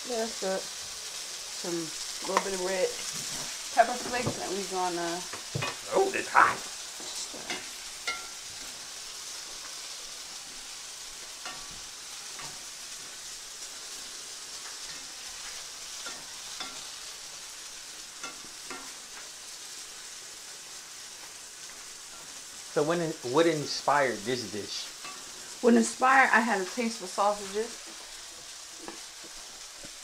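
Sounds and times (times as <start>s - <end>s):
sausages sizzling in oil: 0.0s - 30.0s.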